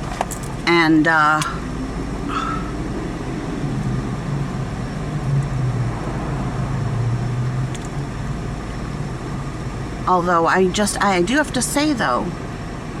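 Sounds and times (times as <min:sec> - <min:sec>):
car engine hum: 0:00.0 - 0:13.0
tyres on road: 0:00.0 - 0:13.0.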